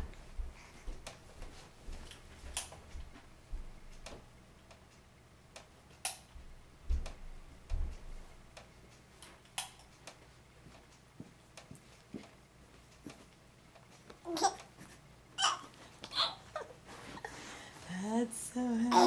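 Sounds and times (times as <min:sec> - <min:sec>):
baby swing ticking and clicking: 0:00.4 - 0:17.5.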